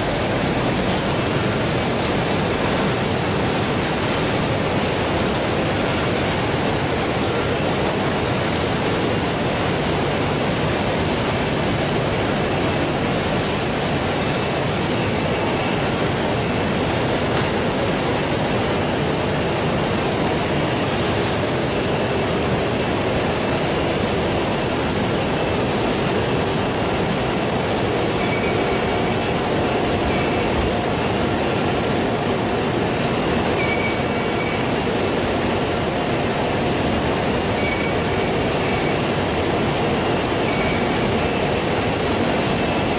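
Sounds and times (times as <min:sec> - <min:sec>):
factory machinery running: 0:00.0 - 0:42.9.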